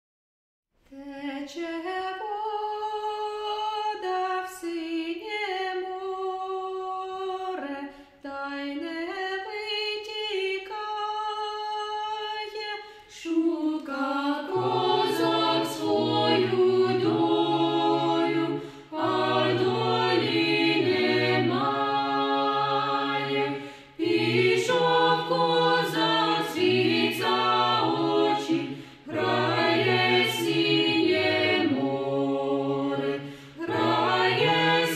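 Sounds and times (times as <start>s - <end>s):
a cappella choir singing: 1.0s - 34.9s.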